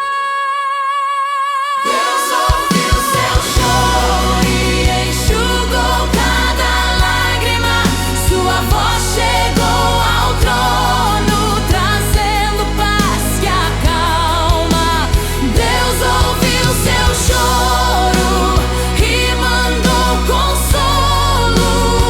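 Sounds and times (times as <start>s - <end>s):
person singing with vibrato: 0.0s - 22.0s
steady drum beat: 2.0s - 22.0s
sustained bass: 3.2s - 22.0s.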